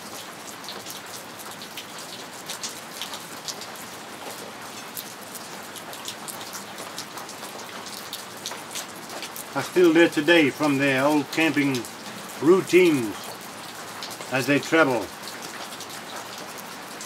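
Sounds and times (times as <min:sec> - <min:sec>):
rain falling: 0:00.0 - 0:17.0
sharp raindrop strikes: 0:00.0 - 0:17.0.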